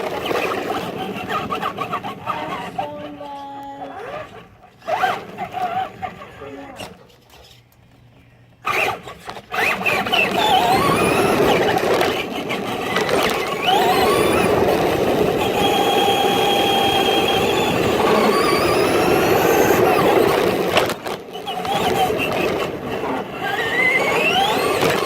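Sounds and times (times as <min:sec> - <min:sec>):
rc truck motor whining: 0:00.0 - 0:07.8, 0:08.6 - 0:25.0.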